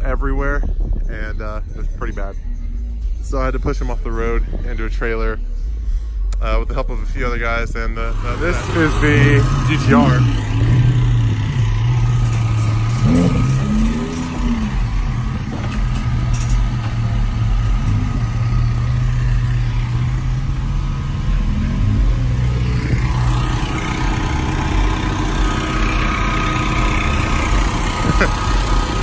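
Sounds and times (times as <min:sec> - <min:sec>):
car engine idling: 0:00.0 - 0:29.0
engine throttle blips: 0:00.0 - 0:29.0.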